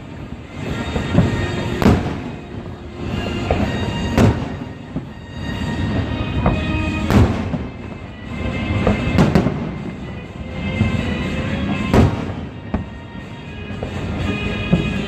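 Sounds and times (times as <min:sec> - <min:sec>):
fireworks booming: 0:00.0 - 0:15.0
music playing: 0:00.0 - 0:15.0.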